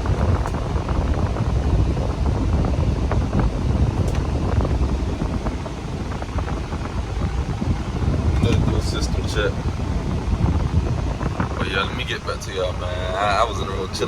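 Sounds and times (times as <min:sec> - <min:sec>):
diesel truck engine idling: 0:00.0 - 0:14.0
fan blowing air: 0:00.0 - 0:14.0.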